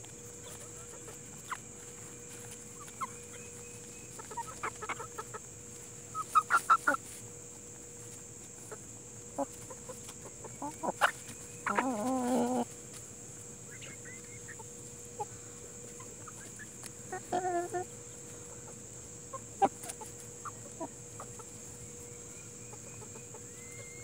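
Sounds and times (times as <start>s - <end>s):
hens clucking: 0.3s - 23.9s.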